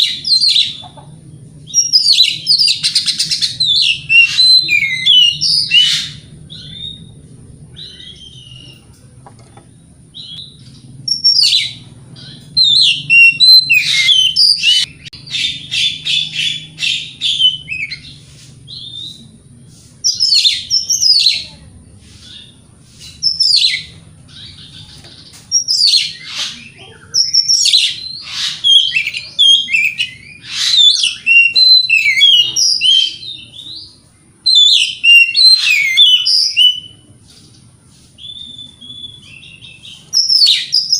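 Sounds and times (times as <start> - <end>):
bird singing whistles and trills: 1.7 - 8.9, 10.1 - 19.4, 20.0 - 21.5, 22.2 - 24.9, 25.5 - 37.0, 38.2 - 40.9.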